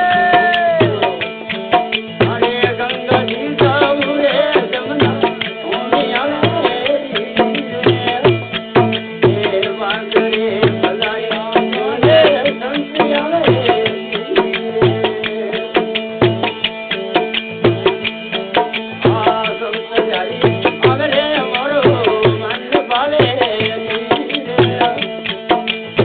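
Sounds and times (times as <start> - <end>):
hand drum beat: 0.0 - 26.0
sharp clicking percussion: 0.0 - 26.0.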